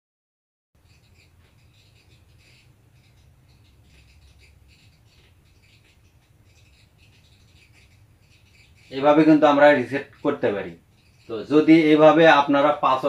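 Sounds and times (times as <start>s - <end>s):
faint high-pitched chirps: 0.8s - 13.0s.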